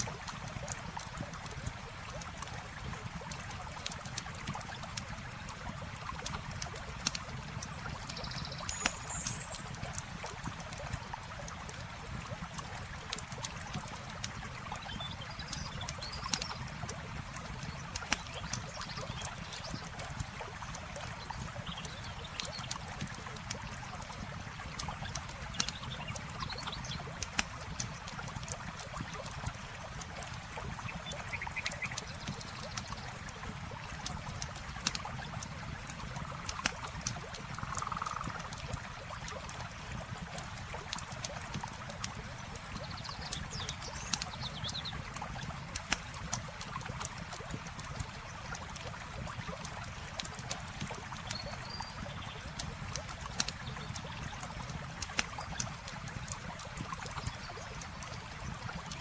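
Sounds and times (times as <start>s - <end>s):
campfire crackling and popping: 0.0s - 59.0s
running water: 0.0s - 59.0s.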